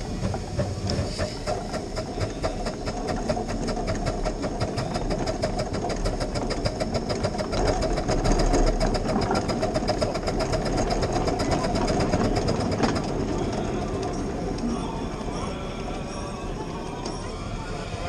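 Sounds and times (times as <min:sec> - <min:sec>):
steam locomotive exhaust beating: 0:00.0 - 0:18.0.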